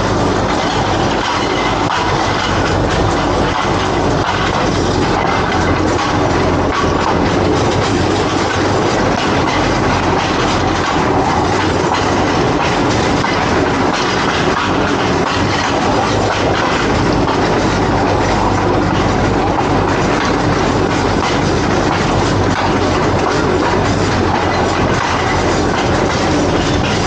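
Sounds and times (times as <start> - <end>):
train running noise: 0.0 - 27.0
wheels knocking on rails: 0.0 - 27.0.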